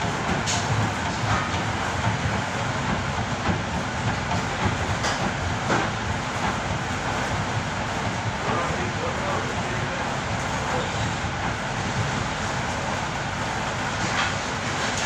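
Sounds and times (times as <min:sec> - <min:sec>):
machinery rumble and hiss: 0:00.0 - 0:15.0.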